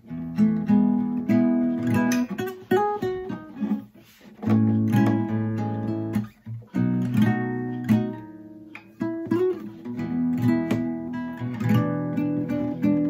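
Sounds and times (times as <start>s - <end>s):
nylon-string guitar chords strummed: 0.0s - 13.0s.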